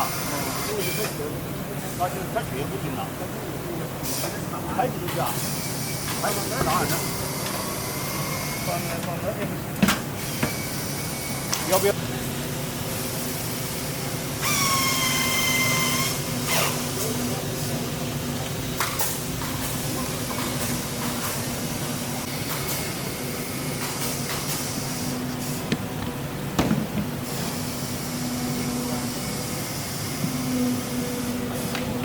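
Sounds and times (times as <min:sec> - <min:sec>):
workshop machinery hum: 0:00.0 - 0:32.0.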